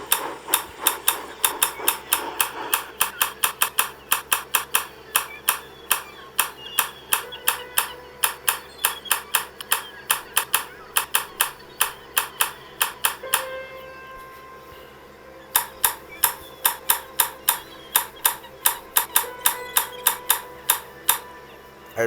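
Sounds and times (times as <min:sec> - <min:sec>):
rapid sharp clicks: 0:00.0 - 0:13.6, 0:15.5 - 0:21.3.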